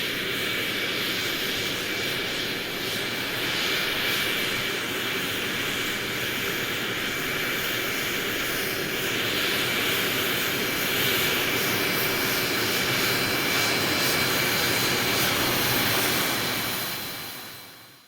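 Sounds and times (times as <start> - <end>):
jet engine rush with whine: 0.0 - 18.0.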